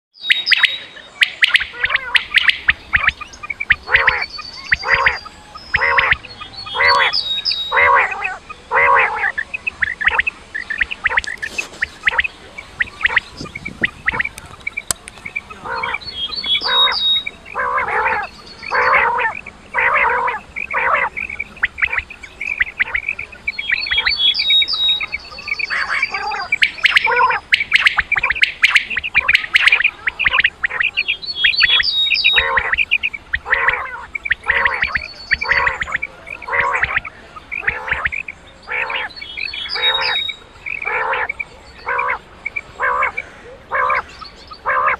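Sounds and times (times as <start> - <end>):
high chirps: 0.2 - 43.2
quail calling: 0.2 - 44.9.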